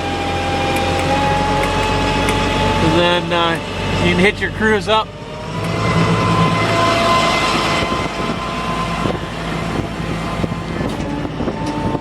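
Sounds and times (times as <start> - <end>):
diesel engine at high idle: 0.0 - 12.0
thin steady whining tones: 0.0 - 12.0.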